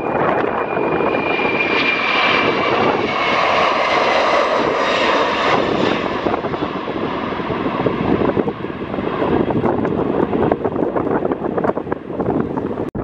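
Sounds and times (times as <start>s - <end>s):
high jet whine: 0.0s - 13.0s
jet engines roaring at takeoff: 0.0s - 13.0s.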